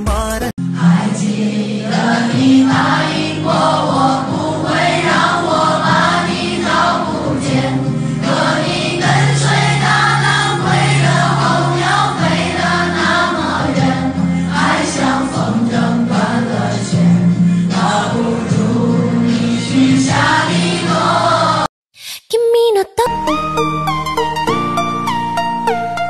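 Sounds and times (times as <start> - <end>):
song with singing voices: 0.0 - 21.7.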